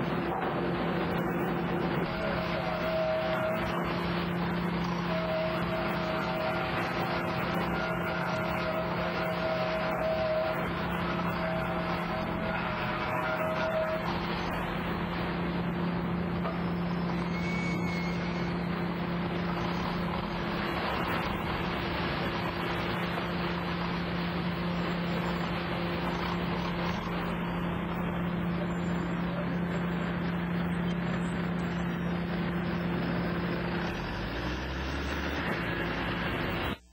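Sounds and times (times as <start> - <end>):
sawmill machinery running: 0.0 - 36.9.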